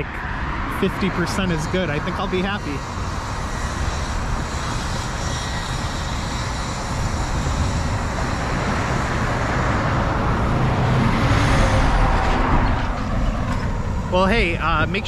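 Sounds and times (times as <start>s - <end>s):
road traffic going by: 0.0s - 15.0s
vehicle passing close: 0.0s - 15.0s.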